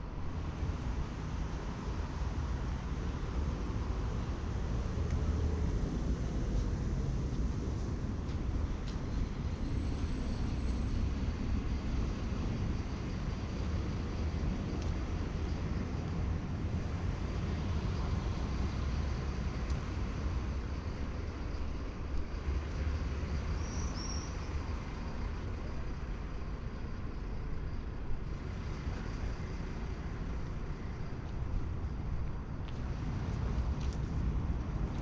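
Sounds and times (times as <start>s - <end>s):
city traffic rumble: 0.0s - 35.0s.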